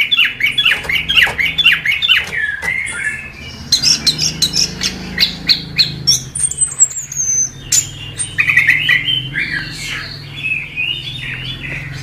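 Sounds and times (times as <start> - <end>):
steady low hum: 0.0 - 12.0
thrush singing: 0.0 - 12.0.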